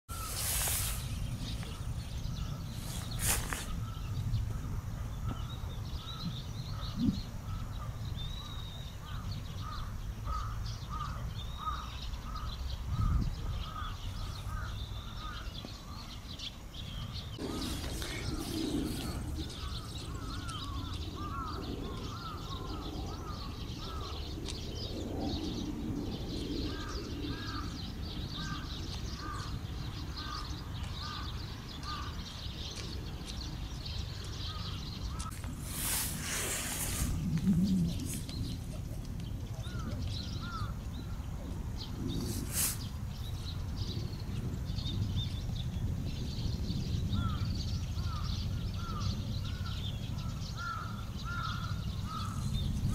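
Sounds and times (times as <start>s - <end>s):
sparrows chirping: 0.1s - 52.9s.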